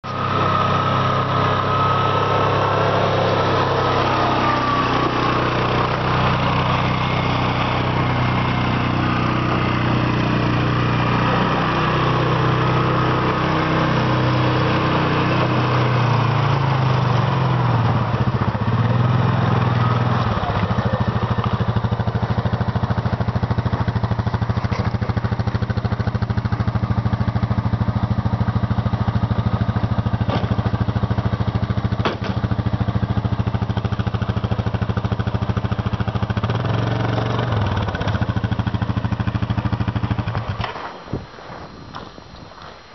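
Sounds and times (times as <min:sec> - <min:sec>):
quad engine revving and idling: 0:00.0 - 0:40.8.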